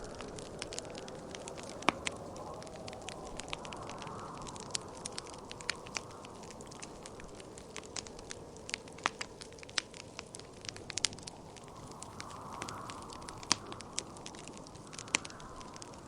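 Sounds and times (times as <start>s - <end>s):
whooshing wind: 0.0s - 16.0s
wood fire crackling and popping: 0.0s - 16.0s.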